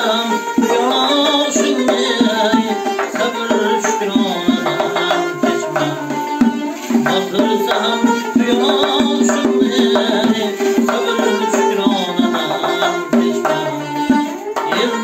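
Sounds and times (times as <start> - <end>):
frame drum finger strokes: 1.7 - 15.0.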